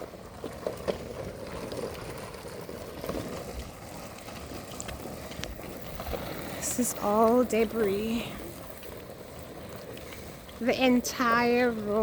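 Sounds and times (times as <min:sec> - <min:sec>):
skate wheels rolling on asphalt: 0:00.0 - 0:12.0.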